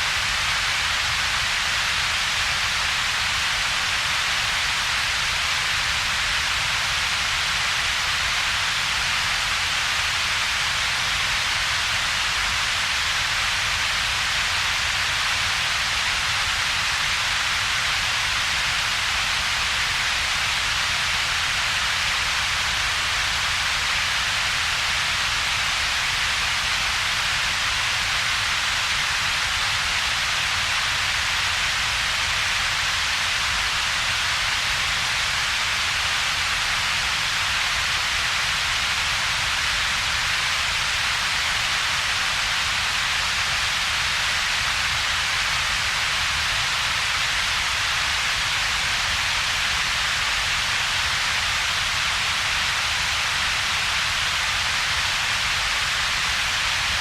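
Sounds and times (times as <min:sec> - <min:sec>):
synthetic hiss with low rumble: 0:00.0 - 0:57.0.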